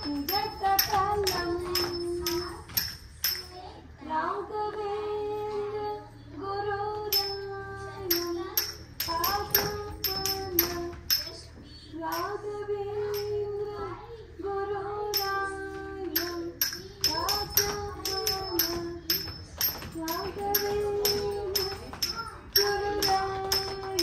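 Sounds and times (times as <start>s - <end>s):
percussion with metallic jingle: 0.0s - 3.9s, 7.0s - 13.6s, 15.1s - 24.0s.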